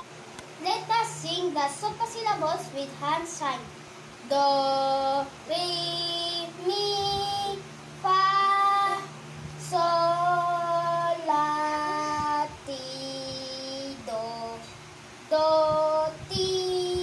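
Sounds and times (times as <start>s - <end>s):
boy singing held notes: 0.6s - 17.0s.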